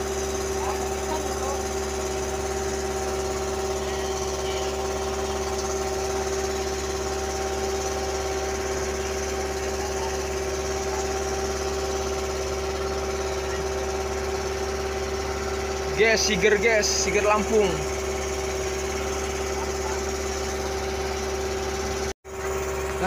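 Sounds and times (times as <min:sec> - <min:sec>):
boat engine running steadily: 0:00.0 - 0:23.0.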